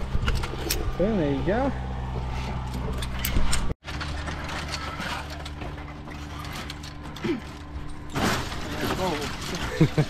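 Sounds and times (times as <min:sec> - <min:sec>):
metal carabiners and pulleys clinking: 0:00.0 - 0:01.7, 0:02.3 - 0:10.0.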